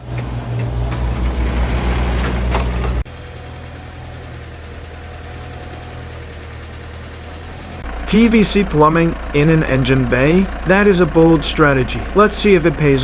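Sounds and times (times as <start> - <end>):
engine idling: 0.0 - 13.0
loud machinery engine with clicks: 0.0 - 13.0.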